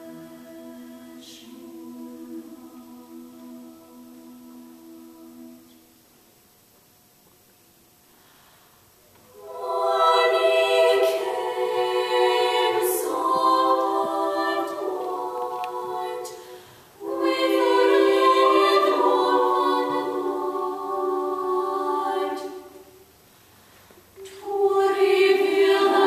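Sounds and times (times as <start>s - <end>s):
girls' choir singing: 0.0s - 5.8s, 9.3s - 23.0s, 24.2s - 26.0s.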